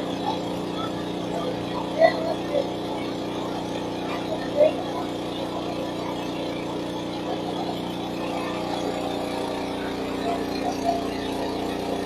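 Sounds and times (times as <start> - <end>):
motor humming steadily: 0.0 - 12.0.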